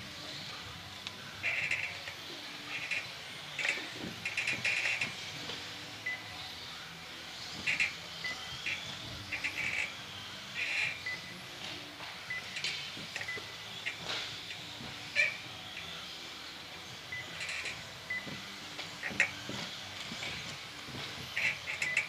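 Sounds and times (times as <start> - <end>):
rc car motors whining: 0.0 - 22.0.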